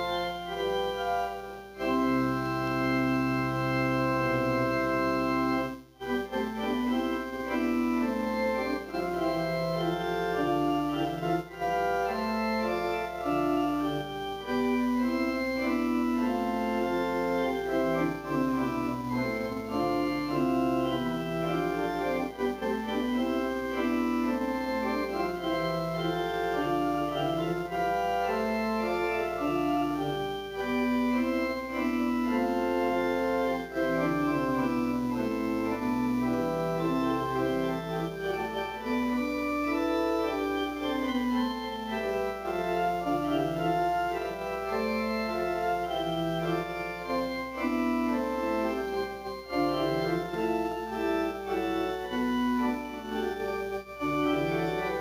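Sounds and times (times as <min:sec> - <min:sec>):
organ playing slow chords: 0:00.0 - 0:55.0.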